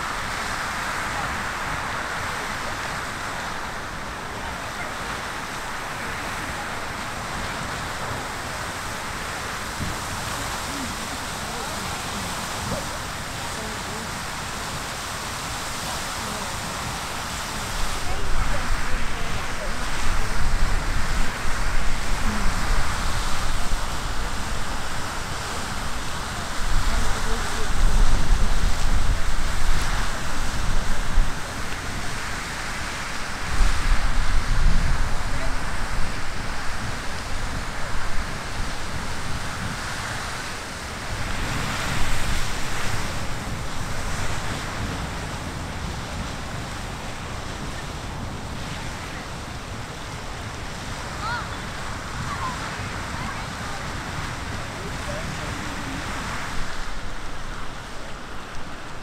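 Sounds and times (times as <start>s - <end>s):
geyser water jet hissing: 0.0s - 59.0s
wind rumble on microphone: 0.0s - 59.0s.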